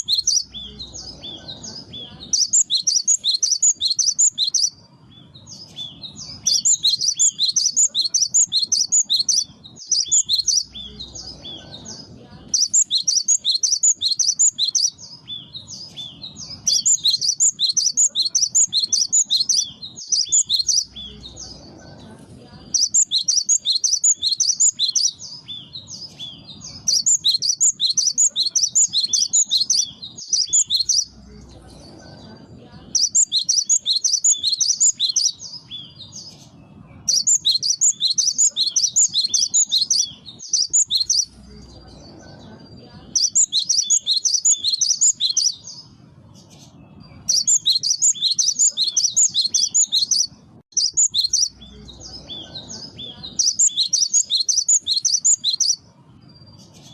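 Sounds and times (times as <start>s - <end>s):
bird chattering song: 0.0s - 56.9s
faint low rumble: 0.0s - 56.9s.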